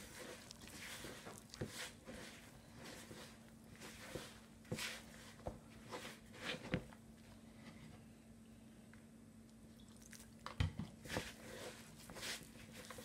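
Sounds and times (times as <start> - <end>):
hand squishing pastry dough: 0.0 - 7.6, 9.6 - 13.0.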